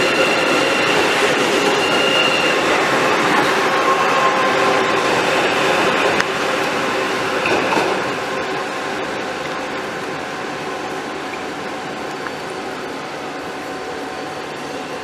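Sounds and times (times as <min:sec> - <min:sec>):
electric train running hum: 0:00.0 - 0:15.0.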